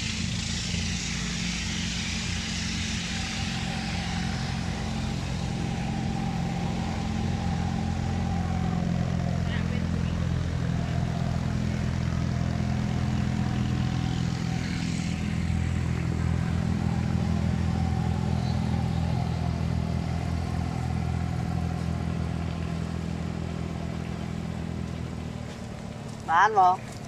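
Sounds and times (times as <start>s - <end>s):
motorboat engine humming: 0.0s - 27.0s.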